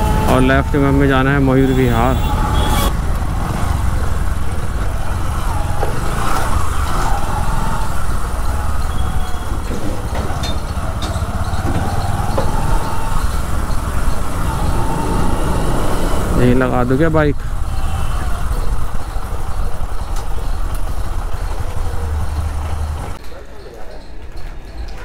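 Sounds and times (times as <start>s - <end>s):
motorcycle engine low rumble: 0.0s - 23.2s.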